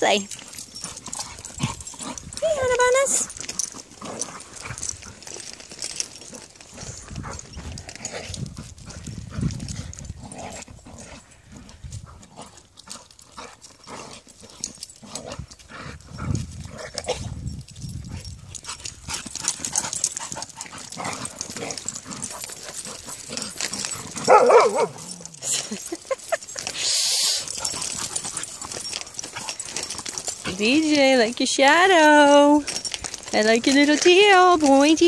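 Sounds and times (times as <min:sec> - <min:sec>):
footsteps on paved path: 0:00.2 - 0:35.0.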